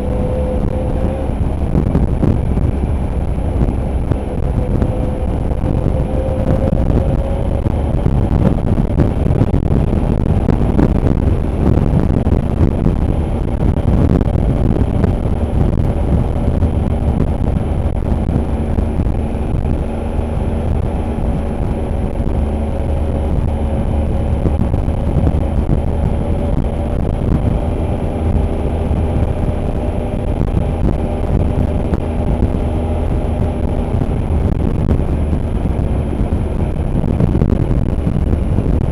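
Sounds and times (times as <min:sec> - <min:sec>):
motorcycle engine running: 0:00.0 - 0:38.9
wind rushing on microphone: 0:00.0 - 0:38.9.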